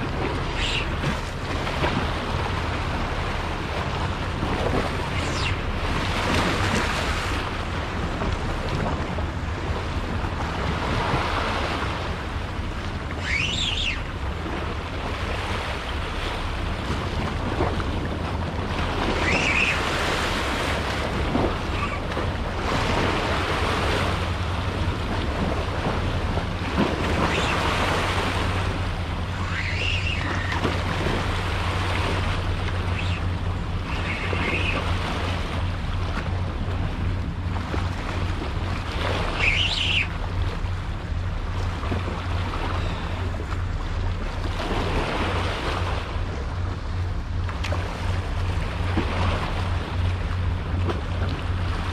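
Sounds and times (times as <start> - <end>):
waves breaking against rock: 0.0 - 46.4.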